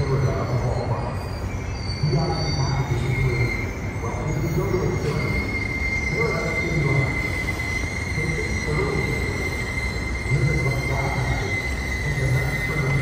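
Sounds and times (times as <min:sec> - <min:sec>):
low train rumble: 0:00.0 - 0:13.0
train wheels squealing on rail: 0:00.0 - 0:13.0.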